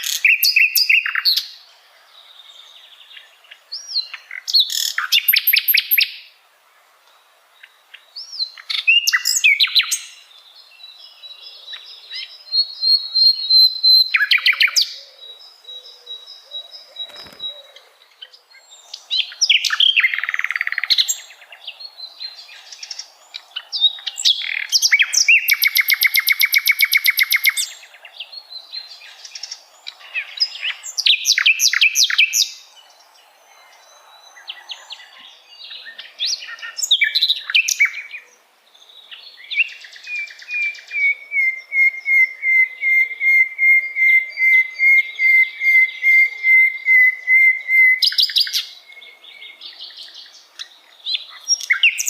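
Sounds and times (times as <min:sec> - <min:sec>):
nightingale singing: 0:00.0 - 0:06.4, 0:07.0 - 0:52.0.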